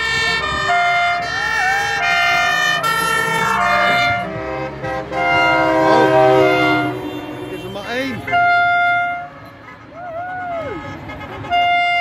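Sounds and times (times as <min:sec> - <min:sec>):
truck horns blaring: 0:00.0 - 0:12.0.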